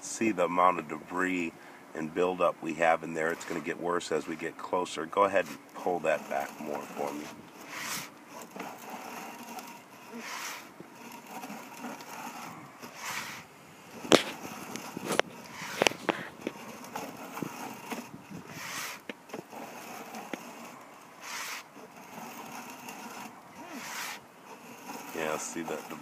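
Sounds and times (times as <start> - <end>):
cable scraping through drain: 2.2 - 26.0.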